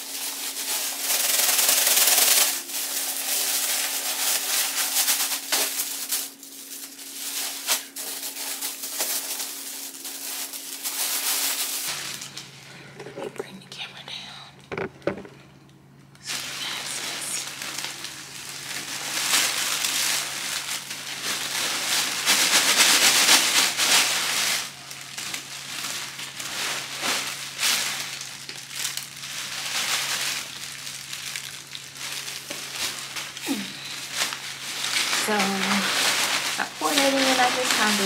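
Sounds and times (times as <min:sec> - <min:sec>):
plastic bags crinkling: 0:00.0 - 0:13.0, 0:16.2 - 0:38.0.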